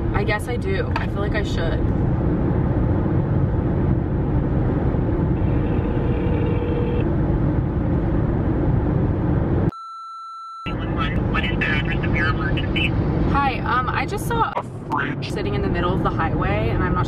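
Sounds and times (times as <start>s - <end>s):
car cabin road rumble: 0.0s - 9.7s, 10.7s - 17.0s.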